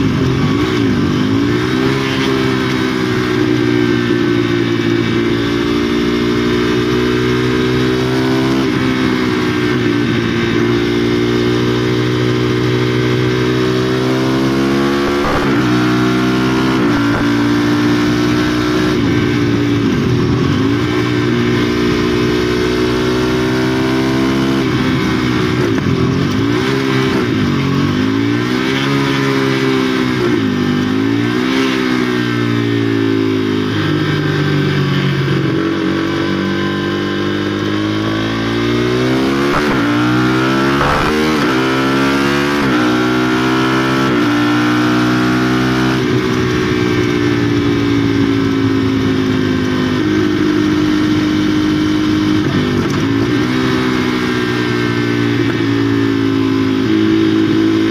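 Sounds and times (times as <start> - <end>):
motorcycle engine under load: 0.0 - 57.9.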